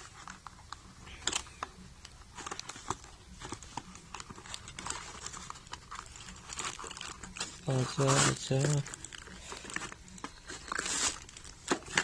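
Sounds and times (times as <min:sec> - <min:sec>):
packaging clicks and crinkles: 0:00.0 - 0:12.0.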